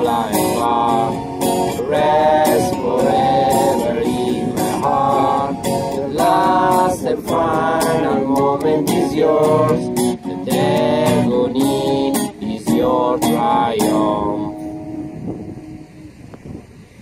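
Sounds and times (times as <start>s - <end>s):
voices singing together: 0.0s - 14.8s
strummed acoustic guitar: 0.0s - 16.2s.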